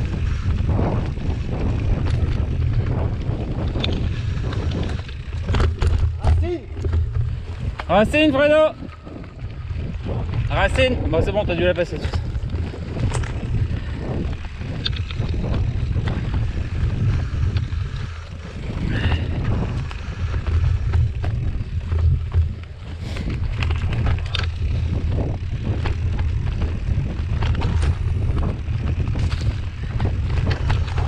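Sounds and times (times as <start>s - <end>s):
bike rattling and clattering: 0.0s - 31.0s
wind buffeting microphone: 0.0s - 31.0s.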